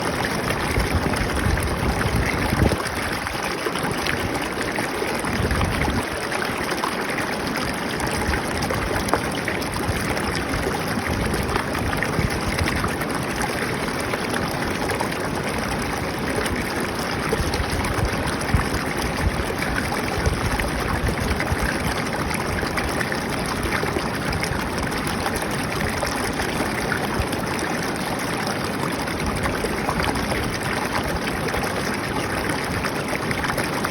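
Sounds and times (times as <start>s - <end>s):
water trickling and splashing: 0.0s - 33.9s.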